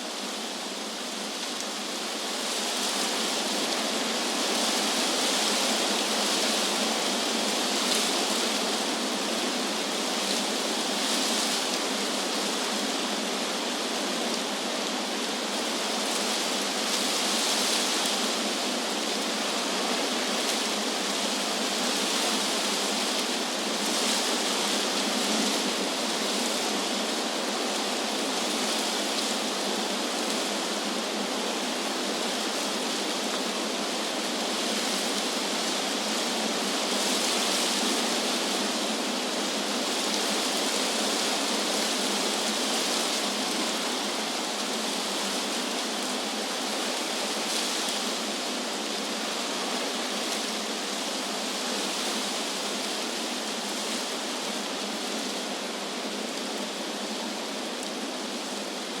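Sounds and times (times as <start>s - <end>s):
wind through trees: 0.0s - 59.0s.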